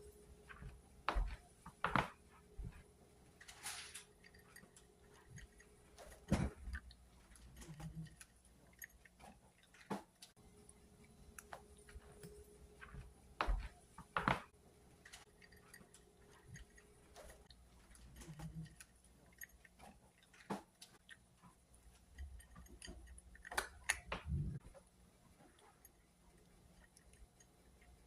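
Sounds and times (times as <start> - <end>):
cat chewing food: 0.2 - 28.0.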